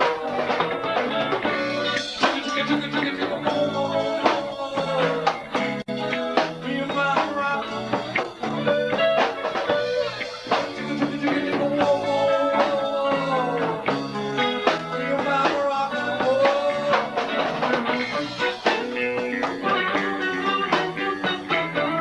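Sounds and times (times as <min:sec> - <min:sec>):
gliding guitar melody: 0:00.0 - 0:22.0
live rock band playing: 0:00.0 - 0:22.0.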